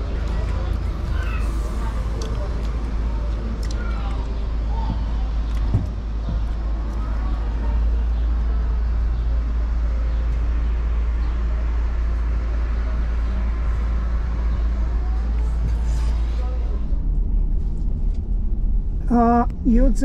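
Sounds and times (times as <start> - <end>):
faint background voices: 0.0 - 17.8
traffic rumble: 0.0 - 20.0.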